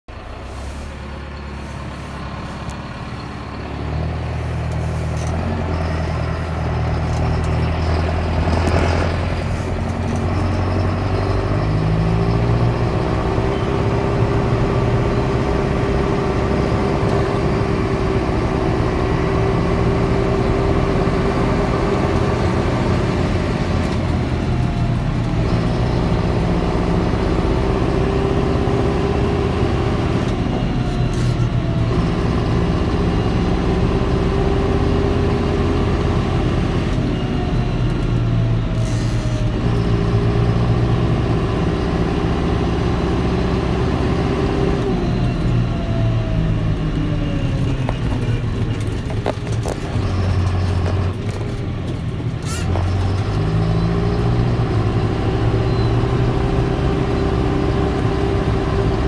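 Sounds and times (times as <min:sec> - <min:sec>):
tractor engine running: 0:00.1 - 0:59.0.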